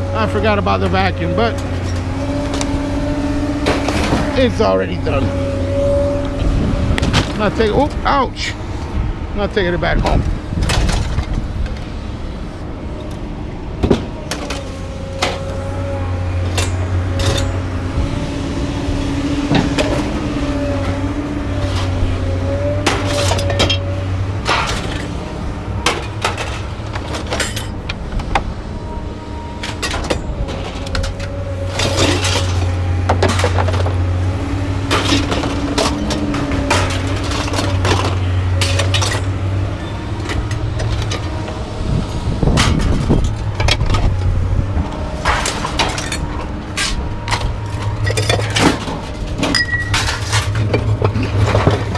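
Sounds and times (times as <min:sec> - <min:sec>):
machine droning and whining: 0:00.0 - 0:51.9
scrap metal clanking and crashing: 0:00.0 - 0:51.9.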